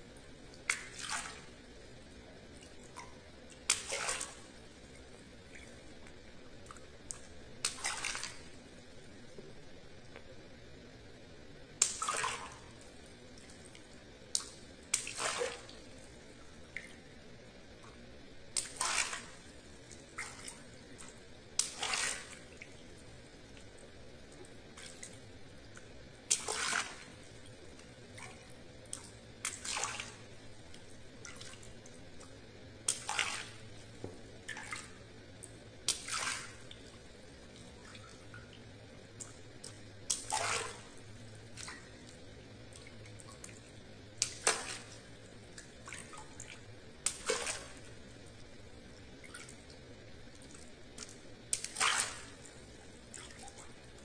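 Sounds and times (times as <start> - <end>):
water splashing: 0.5 - 1.6, 2.5 - 6.0, 6.6 - 8.6, 11.8 - 17.1, 17.8 - 54.0.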